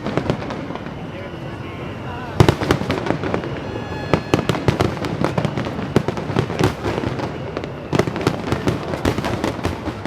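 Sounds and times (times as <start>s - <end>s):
fireworks bursting and crackling: 0.0s - 10.0s.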